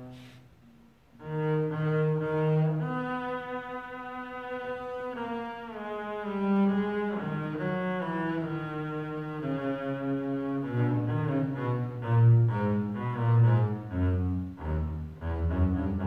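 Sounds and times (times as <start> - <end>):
bowed double bass: 1.2 - 16.0.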